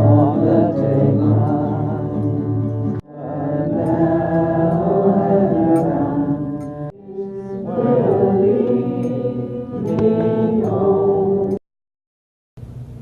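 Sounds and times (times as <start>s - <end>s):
chanting-like held tones music: 0.0s - 11.6s.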